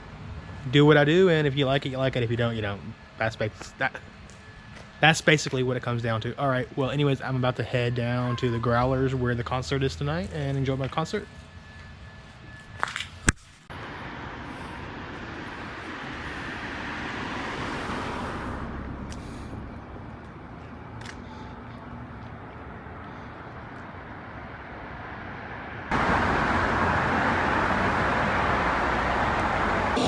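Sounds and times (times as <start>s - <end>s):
passing cars rumble and hiss: 0.0s - 8.2s, 13.7s - 30.0s.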